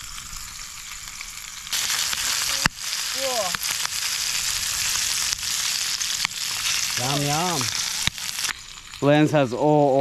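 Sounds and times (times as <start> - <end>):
oil popping and spitting: 0.0 - 9.1
squid sizzling in hot oil: 0.0 - 10.0.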